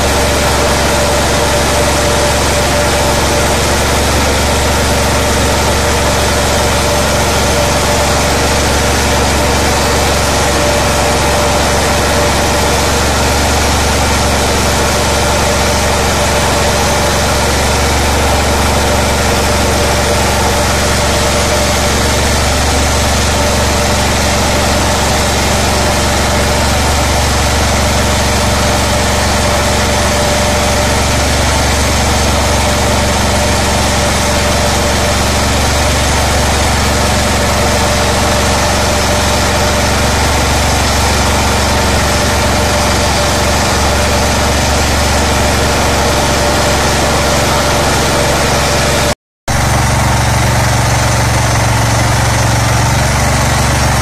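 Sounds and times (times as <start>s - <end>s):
rice huller whirring: 0.0s - 54.0s
small petrol engine running: 0.0s - 54.0s.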